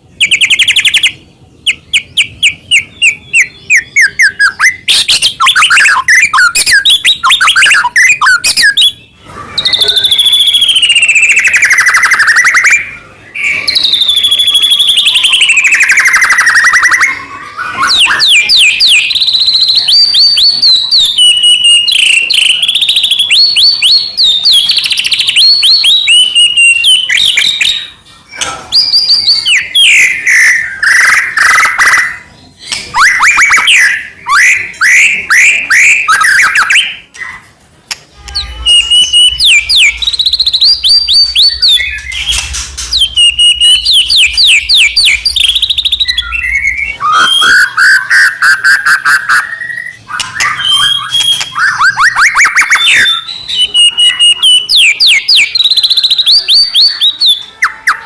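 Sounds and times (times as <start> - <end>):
songbird whistling and trilling: 0.2 - 37.5, 38.4 - 58.0.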